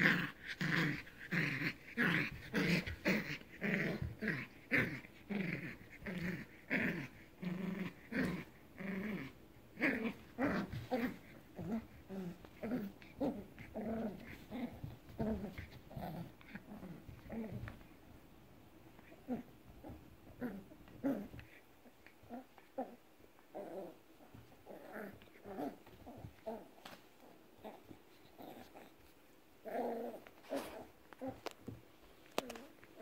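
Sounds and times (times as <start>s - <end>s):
puppy play-growling: 0.0s - 33.0s.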